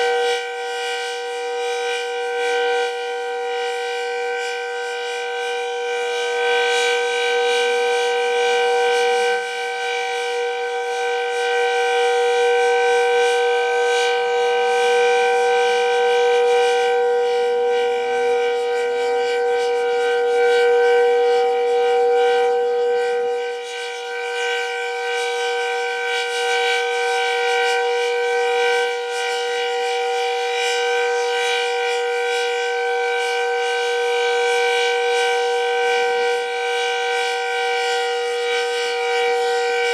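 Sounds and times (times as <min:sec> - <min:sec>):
warning siren wailing tone: 0:00.0 - 0:39.9.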